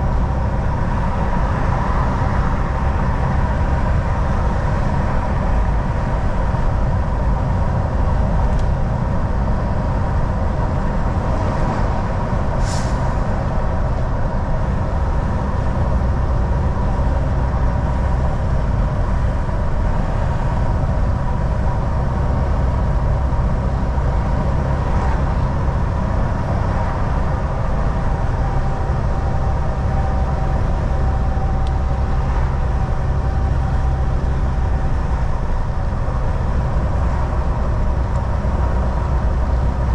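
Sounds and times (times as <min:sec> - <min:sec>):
constant whine: 0:00.0 - 0:39.9
road rumble: 0:00.0 - 0:39.9
truck engine drone: 0:00.0 - 0:39.9.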